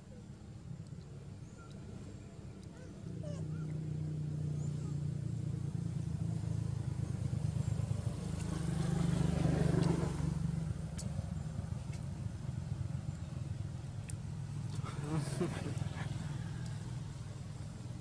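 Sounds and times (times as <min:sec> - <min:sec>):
vehicle engine passing by: 0:02.8 - 0:18.0.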